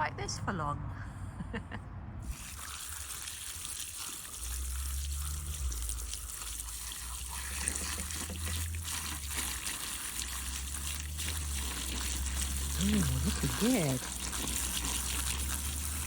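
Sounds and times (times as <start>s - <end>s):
water trickling into pool: 2.2s - 16.0s.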